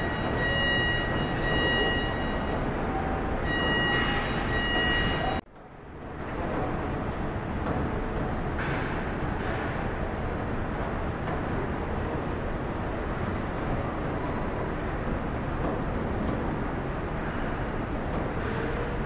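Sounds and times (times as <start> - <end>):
low machinery drone: 0.0 - 19.0.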